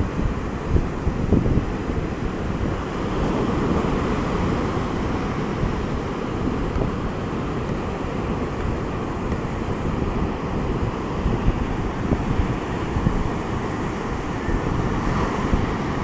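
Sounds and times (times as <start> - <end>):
ocean surf breaking on beach: 0.0 - 16.0
wind buffeting microphone: 0.0 - 16.0.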